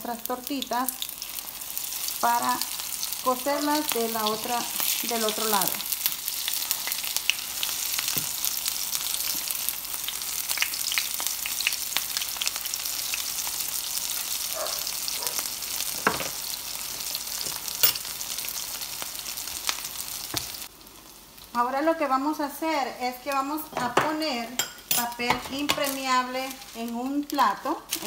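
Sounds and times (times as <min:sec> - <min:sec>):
potato cakes sizzling in oil: 0:00.0 - 0:28.0.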